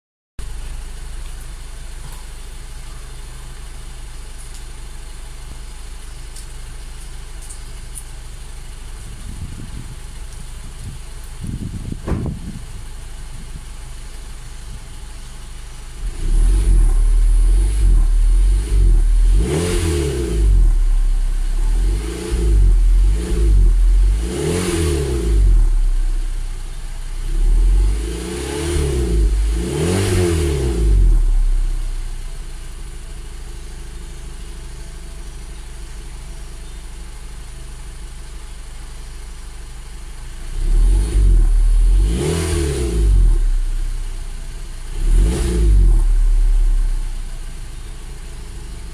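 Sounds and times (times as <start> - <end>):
car engine idling and revving: 0.4 - 48.9.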